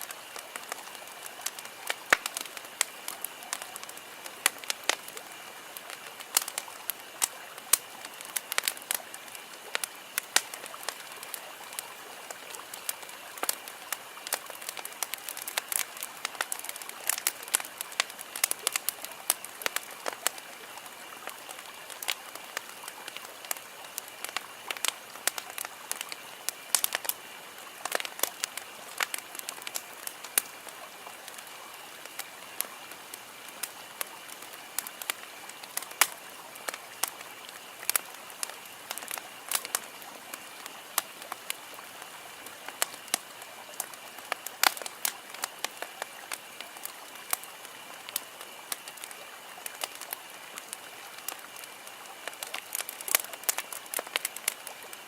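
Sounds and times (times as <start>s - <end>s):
campfire crackling and popping: 0.0s - 55.0s
hiss of burning: 0.0s - 55.0s.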